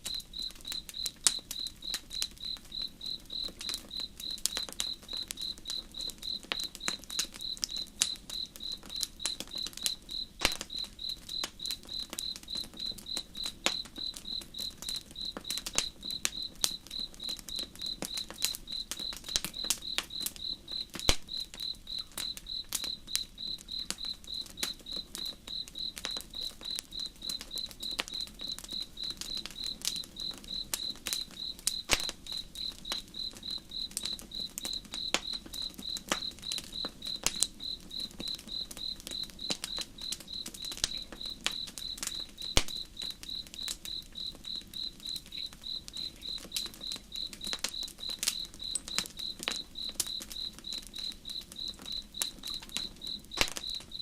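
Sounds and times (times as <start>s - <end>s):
campfire crackling: 0.0s - 54.0s
cricket chirping: 0.0s - 54.0s.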